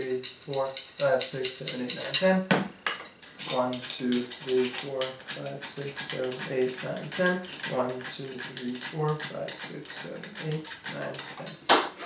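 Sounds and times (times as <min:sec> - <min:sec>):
hand file rasping on metal: 0:00.0 - 0:02.3, 0:03.4 - 0:11.6.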